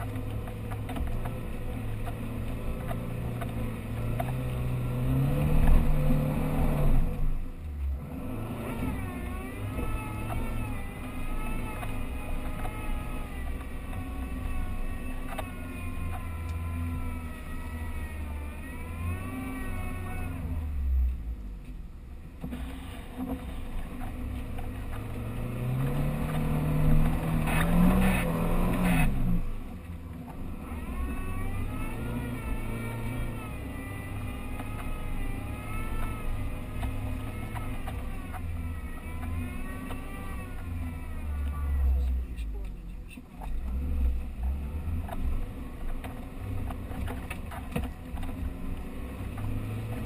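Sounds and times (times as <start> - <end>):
off-road engine revving: 0.0 - 21.6, 22.4 - 50.0.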